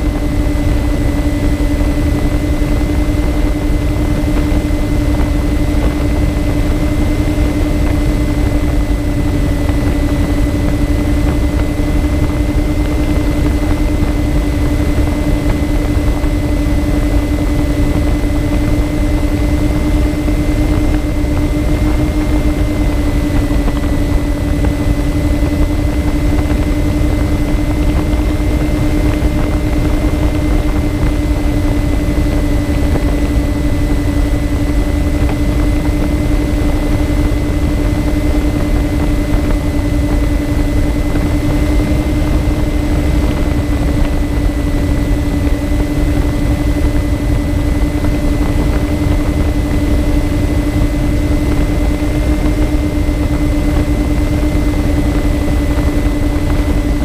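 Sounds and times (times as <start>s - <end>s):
electric motors and propellers humming: 0.0s - 57.0s
wind rushing: 0.0s - 57.0s.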